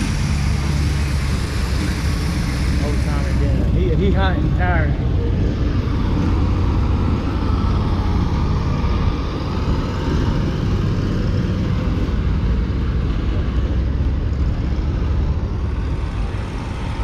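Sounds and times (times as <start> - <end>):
car engine and road rumble: 0.0 - 17.0
wind and tyre noise: 0.0 - 17.0.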